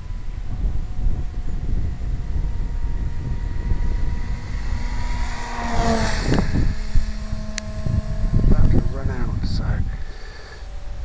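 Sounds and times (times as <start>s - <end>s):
model plane motor whining: 0.0s - 11.0s
wind rumble on microphone: 0.0s - 11.0s.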